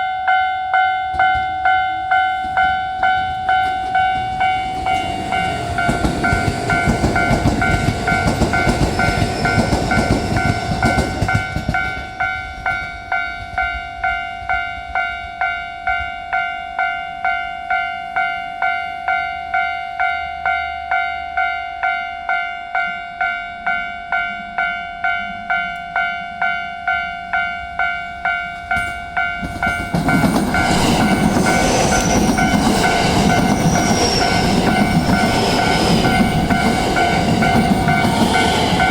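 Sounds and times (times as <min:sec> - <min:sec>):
electric train running past: 0:00.0 - 0:38.9
level-crossing warning bell: 0:00.0 - 0:38.9.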